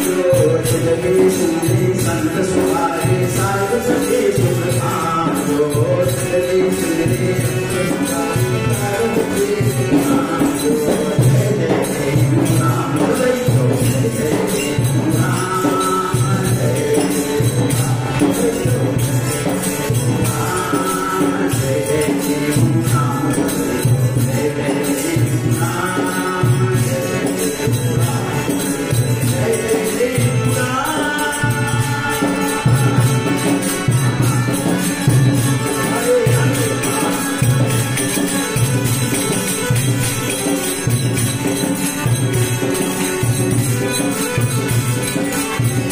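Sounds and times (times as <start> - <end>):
harmonium: 0.0 - 45.9
man singing: 0.0 - 45.9.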